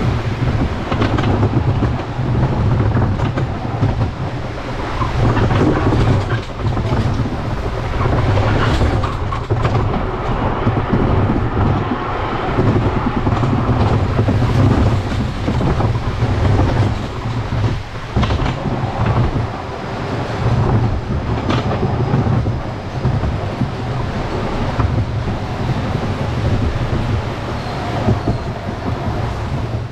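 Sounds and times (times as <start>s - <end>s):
roller coaster car rumbling on track: 0.0s - 29.9s
wheels clacking over rail joints: 0.0s - 29.9s.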